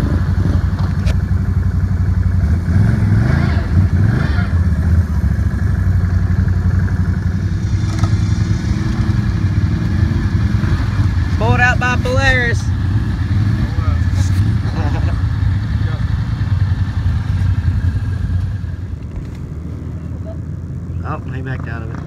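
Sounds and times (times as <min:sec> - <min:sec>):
quad engines revving: 0:00.0 - 0:22.0.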